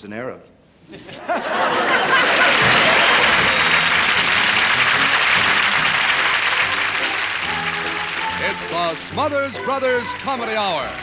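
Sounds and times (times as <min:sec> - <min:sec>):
studio audience applauding: 0:01.6 - 0:11.0.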